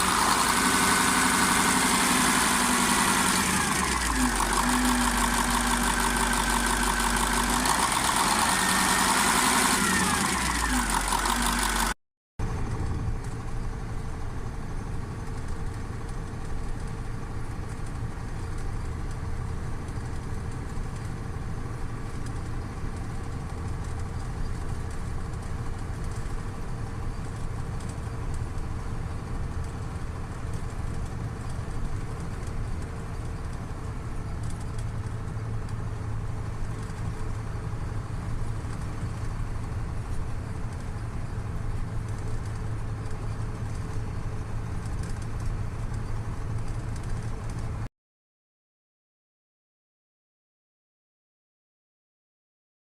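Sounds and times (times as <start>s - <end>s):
diesel engine running steadily: 0.0s - 47.9s.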